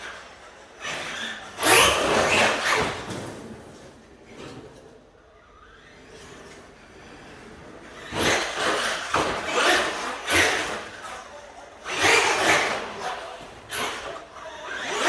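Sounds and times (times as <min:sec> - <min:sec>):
rc truck tyre and drivetrain noise: 0:00.0 - 0:15.0.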